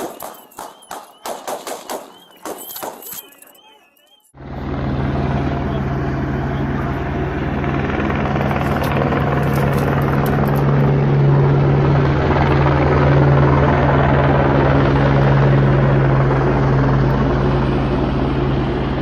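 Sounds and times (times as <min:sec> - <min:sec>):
helicopter rotor drone: 0:00.0 - 0:19.0.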